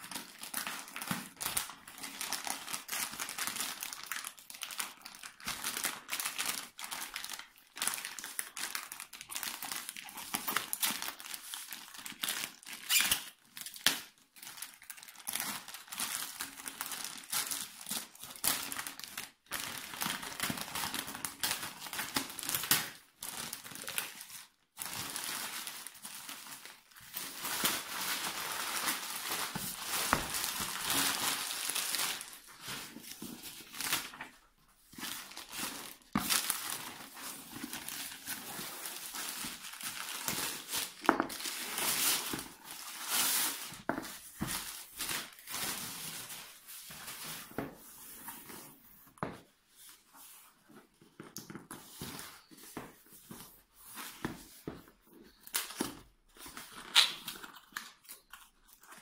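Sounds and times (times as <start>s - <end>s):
plastic bags crinkling and rustling: 0.0s - 59.0s.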